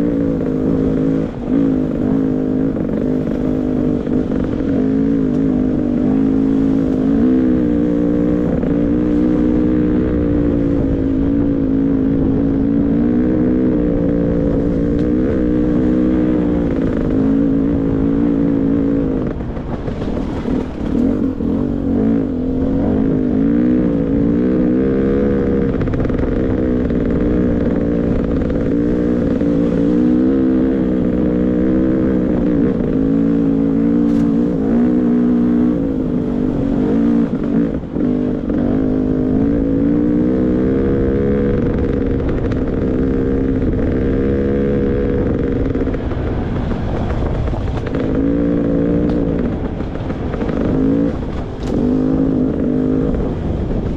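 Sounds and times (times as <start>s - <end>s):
two-stroke dirt bike engine: 0.0s - 53.9s.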